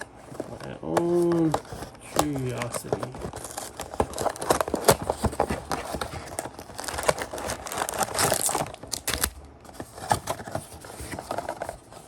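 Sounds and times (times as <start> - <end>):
packaging tearing and crumpling: 0.6 - 11.7.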